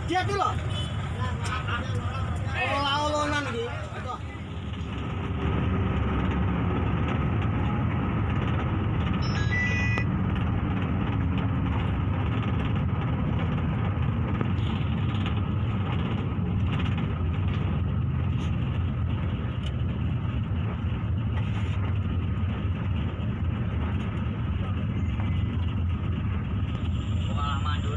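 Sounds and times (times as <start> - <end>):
bus engine and road rumble: 0.0 - 27.9.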